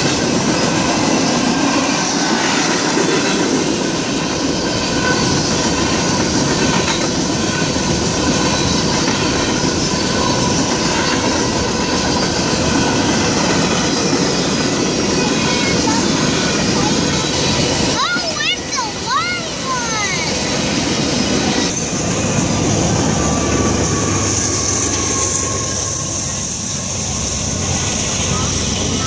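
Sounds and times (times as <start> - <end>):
train wheels rumbling on rail: 0.0 - 29.0
high wheel squealing: 2.8 - 29.0.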